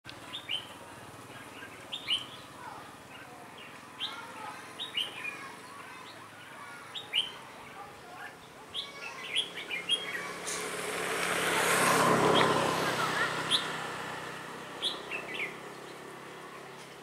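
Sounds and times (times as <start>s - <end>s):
bird chirping and warbling: 0.2s - 10.9s, 11.6s - 14.0s, 14.8s - 16.9s.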